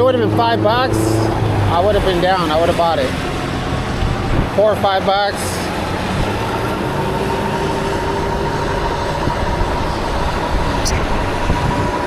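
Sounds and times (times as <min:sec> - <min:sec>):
wind and road noise: 0:00.0 - 0:12.0
thin steady whine: 0:01.2 - 0:12.0.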